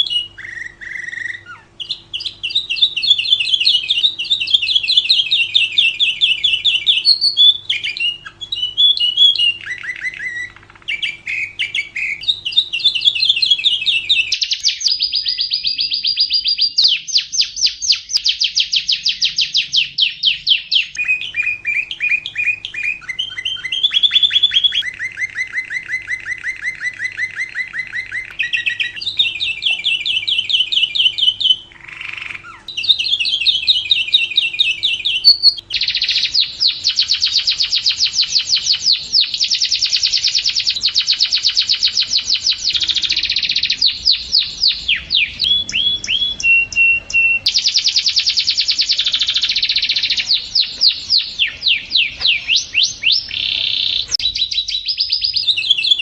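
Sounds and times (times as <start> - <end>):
bird chirping trills: 0.0 - 56.0.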